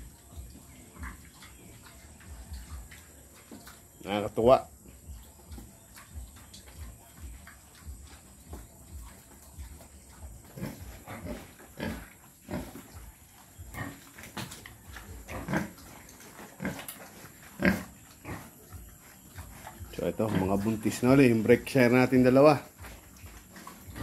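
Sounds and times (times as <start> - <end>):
pigs grunting: 0.0 - 24.0.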